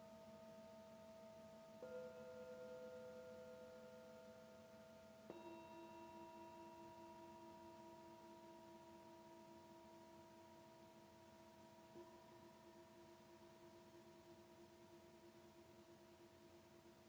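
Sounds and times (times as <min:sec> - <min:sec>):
singing bowls ringing: 0:00.0 - 0:13.7.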